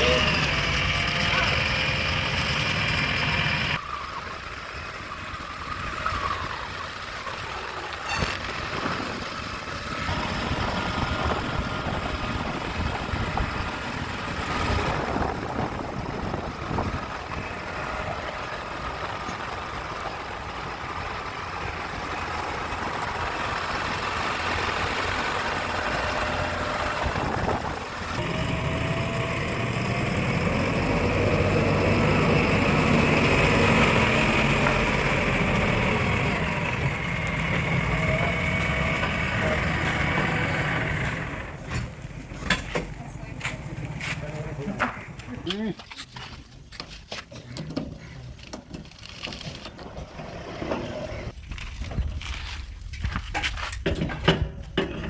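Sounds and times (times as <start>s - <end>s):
heavy diesel engines running: 0.0s - 51.6s.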